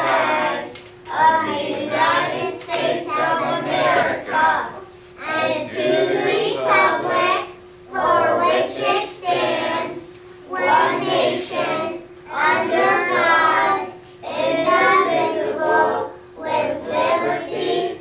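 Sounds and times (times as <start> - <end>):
children singing in unison: 0.0 - 18.0.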